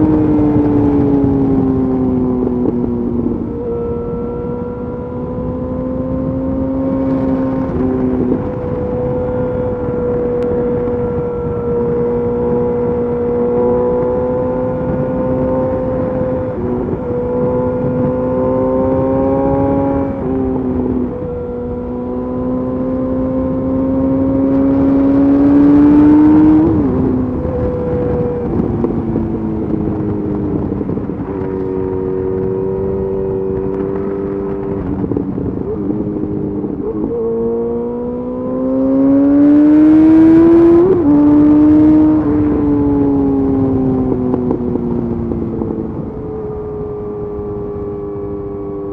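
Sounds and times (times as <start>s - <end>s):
motorcycle engine revving on road: 0.0s - 48.9s.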